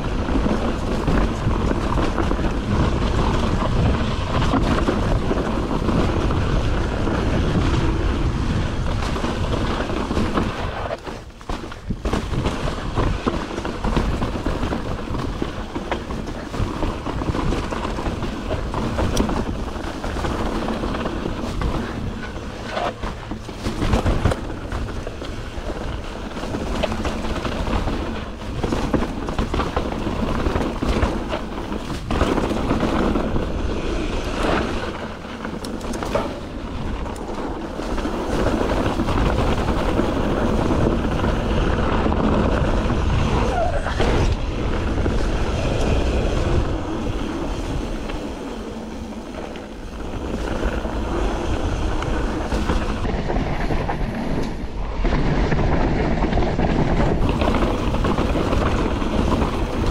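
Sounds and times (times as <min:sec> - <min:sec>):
bike rattling and knocking: 0:00.0 - 0:59.9
bike tyres rolling over rock: 0:00.0 - 0:59.9.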